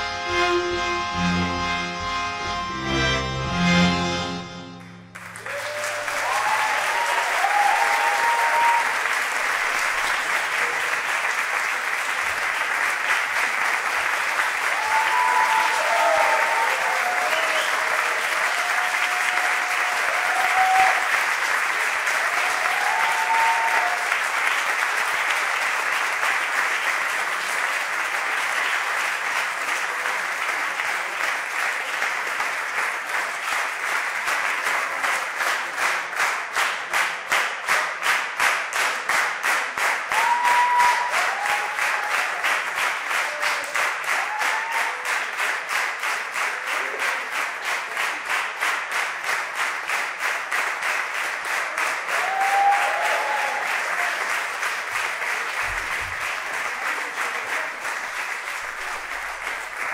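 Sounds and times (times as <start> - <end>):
audience applauding: 4.2 - 59.9.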